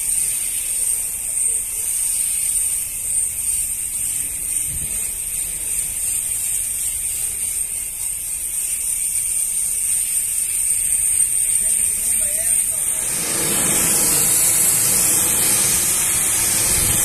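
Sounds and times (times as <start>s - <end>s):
pressure washer spraying metal: 0.0s - 17.0s.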